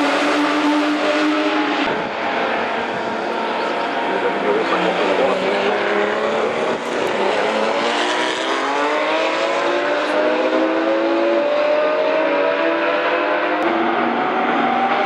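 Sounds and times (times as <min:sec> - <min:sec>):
racing engine accelerating: 0:00.0 - 0:15.0.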